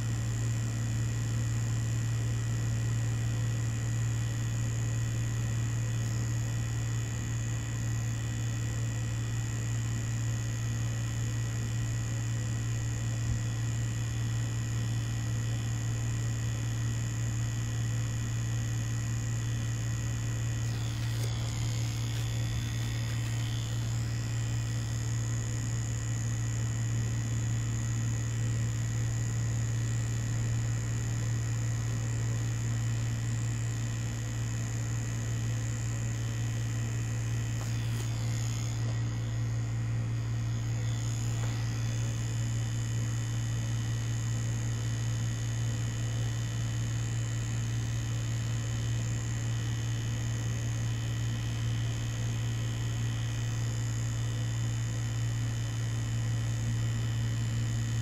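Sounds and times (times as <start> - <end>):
tattoo machine buzzing: 0.0 - 58.0.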